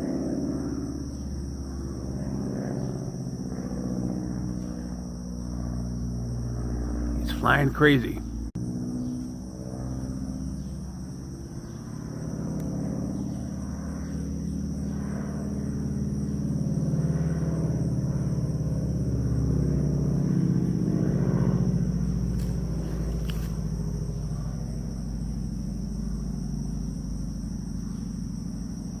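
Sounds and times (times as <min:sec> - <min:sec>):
propeller plane engine drone: 0:00.0 - 0:29.0.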